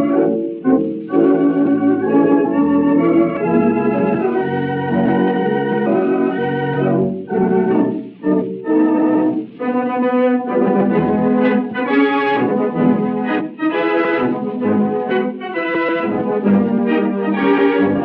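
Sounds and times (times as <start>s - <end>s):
theatre pipe organ playing chords: 0.0s - 18.0s.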